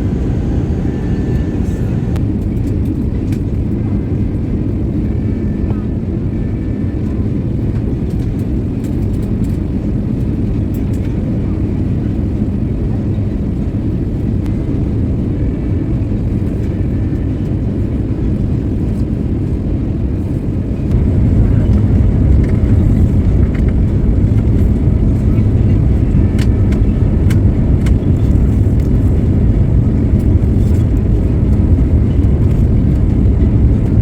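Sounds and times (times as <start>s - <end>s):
airliner engine and airflow rumble: 0.0s - 34.0s.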